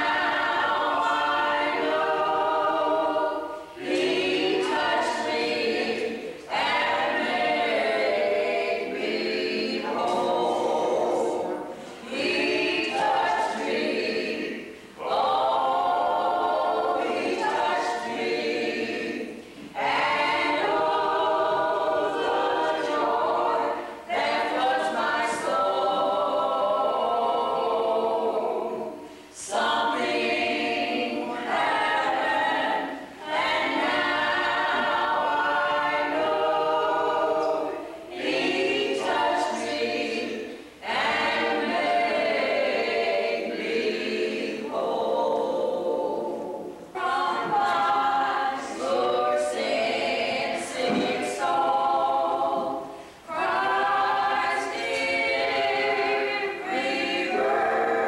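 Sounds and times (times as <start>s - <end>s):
group singing unaccompanied: 0.0s - 58.0s.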